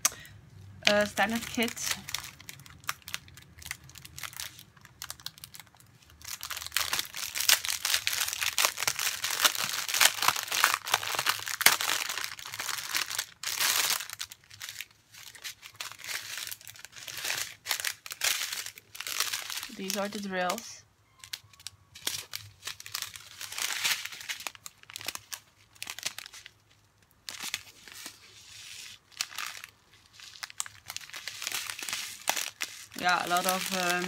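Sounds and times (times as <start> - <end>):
plastic wrapping crinkling: 0.8 - 34.0.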